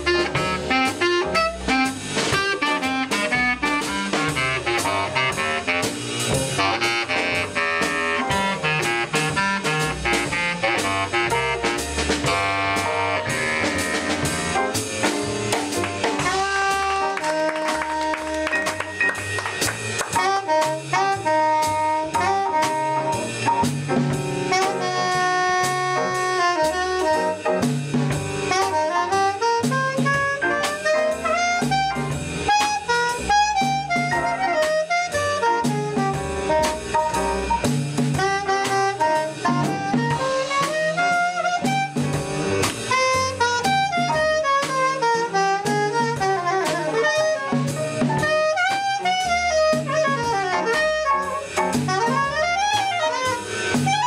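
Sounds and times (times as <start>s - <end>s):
clarinet solo: 0.0s - 14.7s, 16.2s - 23.7s, 24.5s - 27.6s, 28.4s - 54.0s
saxophone solo: 0.0s - 27.7s, 28.3s - 54.0s
double bass: 0.0s - 54.0s
drum kit: 0.0s - 54.0s
piano: 0.0s - 54.0s.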